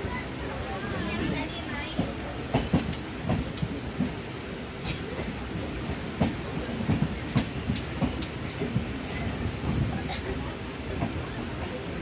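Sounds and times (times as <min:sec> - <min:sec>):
train coach rumbling: 0:00.0 - 0:12.0.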